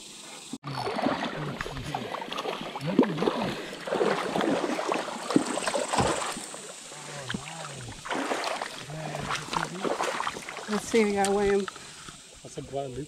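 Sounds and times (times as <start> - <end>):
fish splashing in shallow water: 0.1 - 12.5
water sloshing: 0.6 - 12.6.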